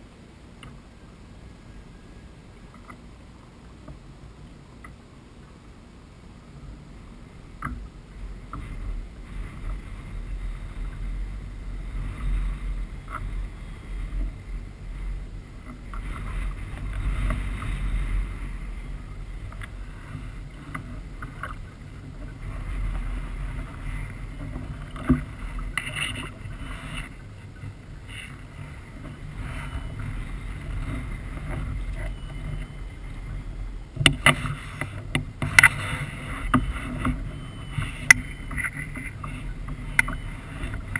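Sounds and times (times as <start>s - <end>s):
wind rumble on microphone: 0.0s - 40.9s
water sloshing against hull: 6.4s - 40.9s.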